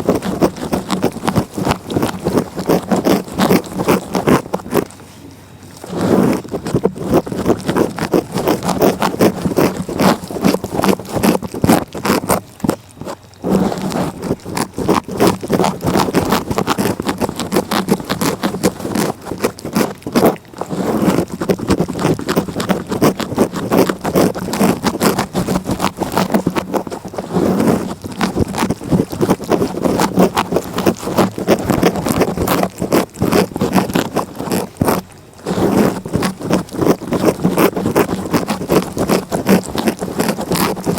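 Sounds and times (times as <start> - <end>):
cat licking: 0.0 - 40.9.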